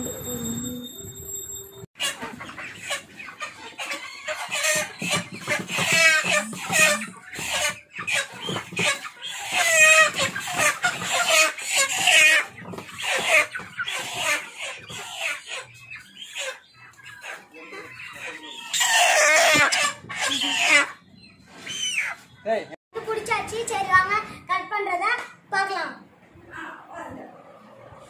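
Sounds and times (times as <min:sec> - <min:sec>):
chickens clucking and squawking: 0:00.0 - 0:00.8, 0:02.0 - 0:22.6, 0:26.3 - 0:28.0.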